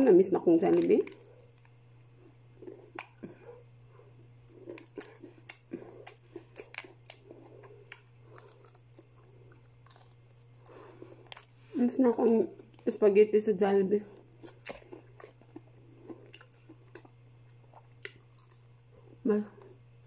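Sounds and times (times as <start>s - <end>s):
steady low hum: 0.0s - 20.0s
chewing crunchy food: 0.5s - 12.9s, 14.1s - 19.9s.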